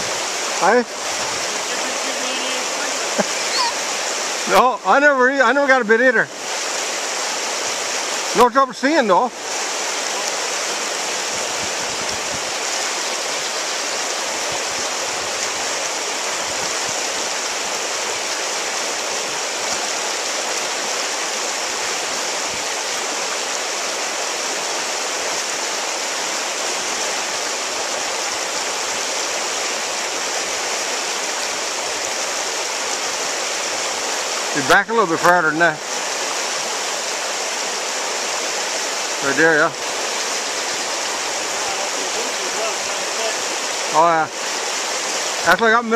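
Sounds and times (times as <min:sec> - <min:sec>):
river rapids rushing over rocks: 0:00.0 - 0:45.9.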